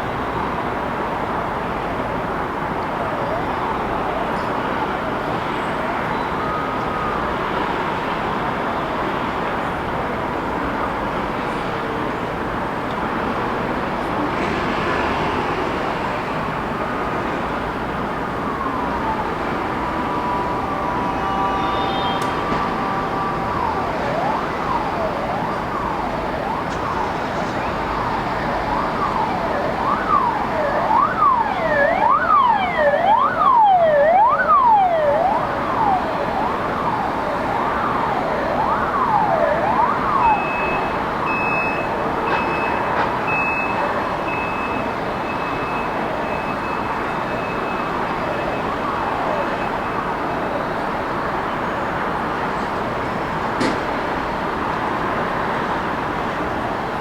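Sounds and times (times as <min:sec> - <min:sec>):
city traffic noise: 0:00.0 - 0:57.0
emergency siren wailing: 0:01.2 - 0:12.5, 0:15.2 - 0:53.5.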